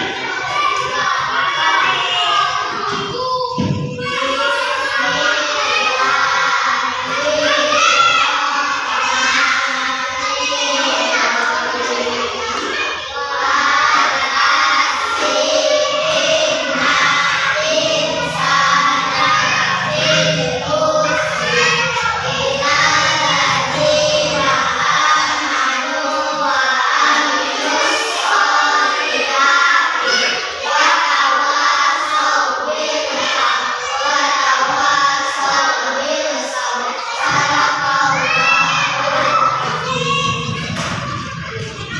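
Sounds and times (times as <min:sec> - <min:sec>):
children singing in chorus: 0:00.0 - 0:41.9.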